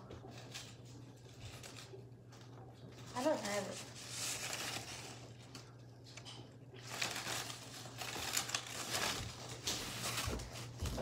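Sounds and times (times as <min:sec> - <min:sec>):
plastic and paper crinkling: 0:00.0 - 0:11.0.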